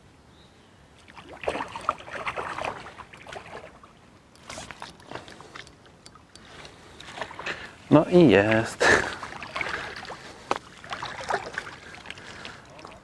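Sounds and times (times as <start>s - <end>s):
water splashing and sloshing: 1.0s - 13.0s.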